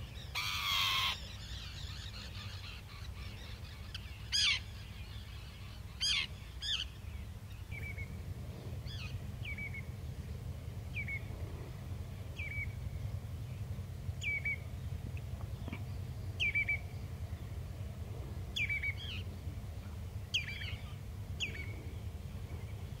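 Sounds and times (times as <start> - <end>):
bird calling: 0.0 - 23.0
steady low rumble: 1.1 - 23.0.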